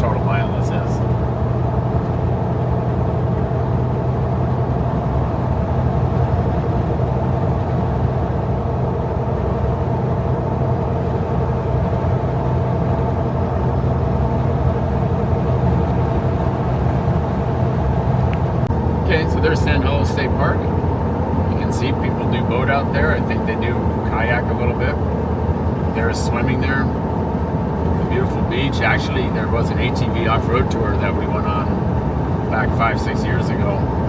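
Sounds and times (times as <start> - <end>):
car engine drone: 0.0 - 34.0
road and tyre noise: 0.0 - 34.0.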